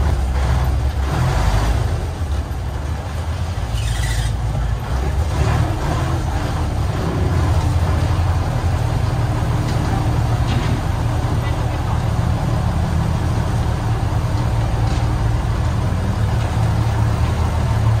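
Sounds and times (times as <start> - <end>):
ferry engine rumbling: 0.0 - 18.0.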